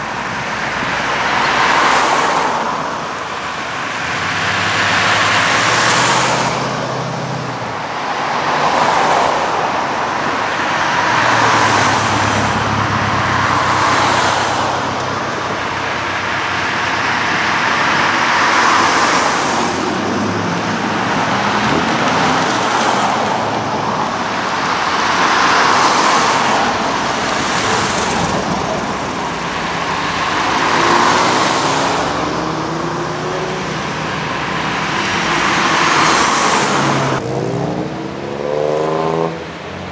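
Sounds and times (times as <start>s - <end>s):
cars driving past: 0.0s - 39.9s.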